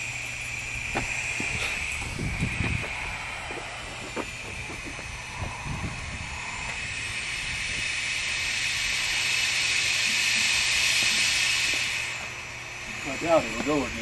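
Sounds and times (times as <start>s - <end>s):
hiss of air: 0.0s - 14.0s.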